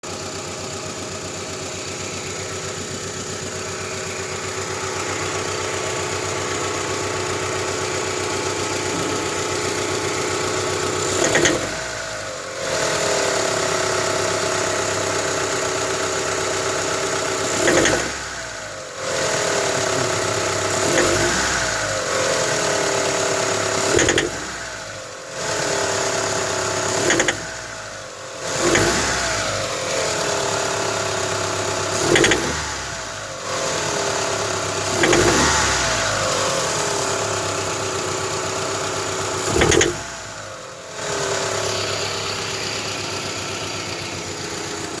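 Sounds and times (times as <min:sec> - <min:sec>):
engine idling and revving: 0:00.0 - 0:45.0.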